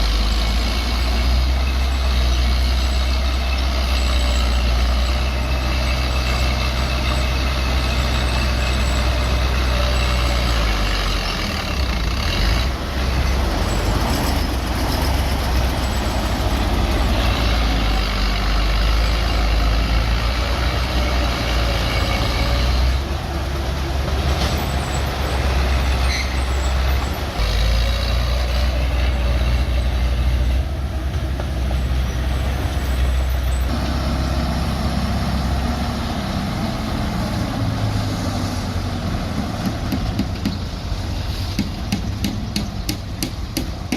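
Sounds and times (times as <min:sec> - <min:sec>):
bulldozer diesel engine rumble: 0:00.0 - 0:43.9.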